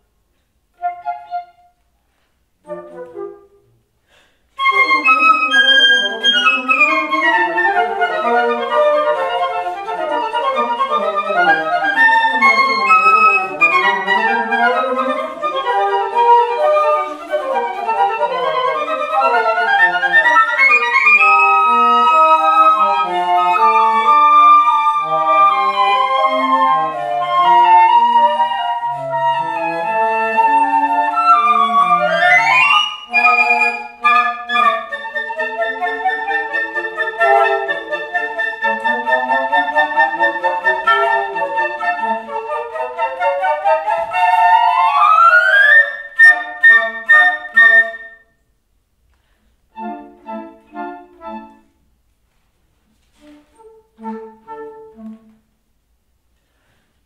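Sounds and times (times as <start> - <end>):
flute quartet playing classical music: 0.6 - 48.5, 49.6 - 52.0, 53.0 - 55.6.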